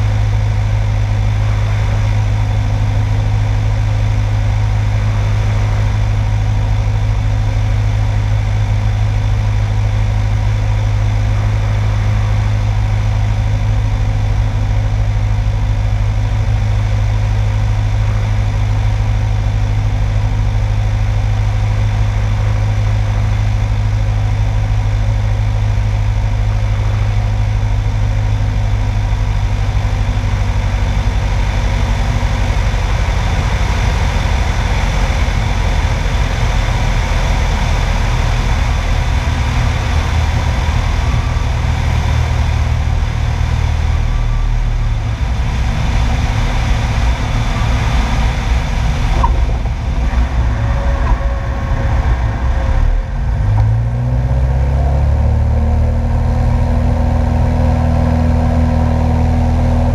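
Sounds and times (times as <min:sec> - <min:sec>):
propeller airplane engine droning: 0:00.0 - 0:59.9.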